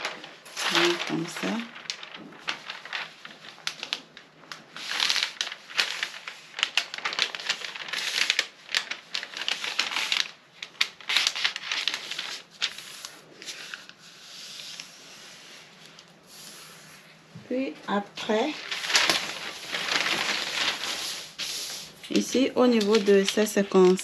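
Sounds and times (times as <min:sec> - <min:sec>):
fabric rustling and swishing: 0:00.0 - 0:10.3, 0:11.1 - 0:24.0.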